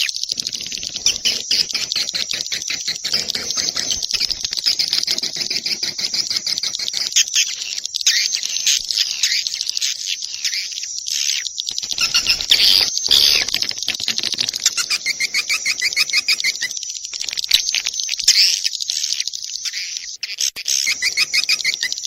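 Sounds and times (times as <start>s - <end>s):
fast repeated chirps: 0.0s - 22.0s
swiftlet chirps and clicks: 0.0s - 22.0s.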